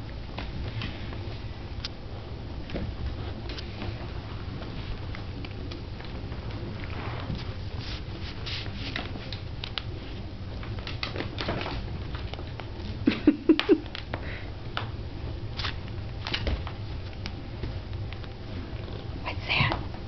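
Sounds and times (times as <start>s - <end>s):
paws and toy clicks and rustles: 0.0s - 20.0s.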